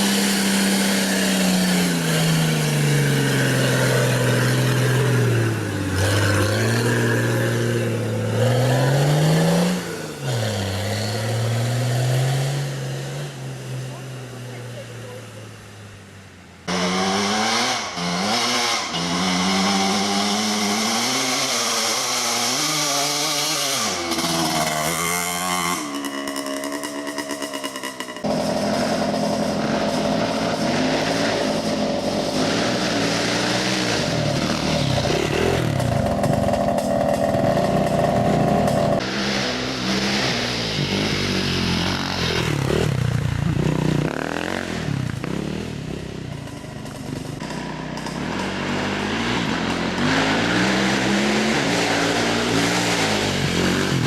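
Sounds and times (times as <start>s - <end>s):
off-road engines revving: 0.0s - 54.0s.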